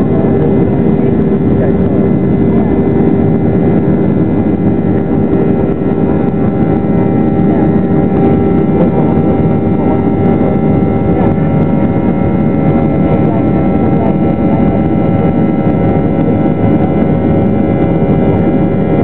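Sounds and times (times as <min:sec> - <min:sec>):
jet engine rumbling at high power: 0:00.0 - 0:19.0.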